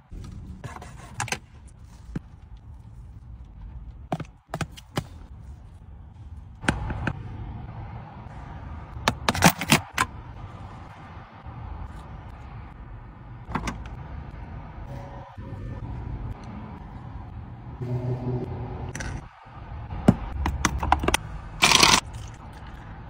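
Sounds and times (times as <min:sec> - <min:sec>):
low rumble inside car: 0:00.0 - 0:09.4, 0:10.0 - 0:23.0.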